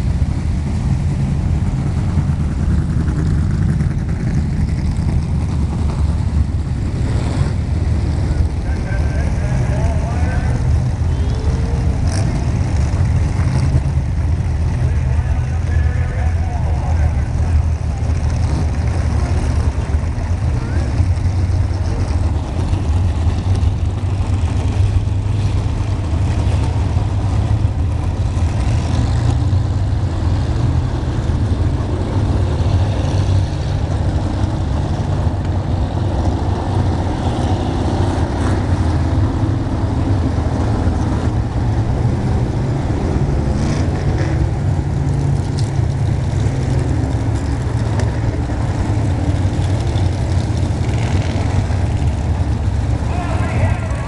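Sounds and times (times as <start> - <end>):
stock car engines rumbling: 0.0 - 54.0.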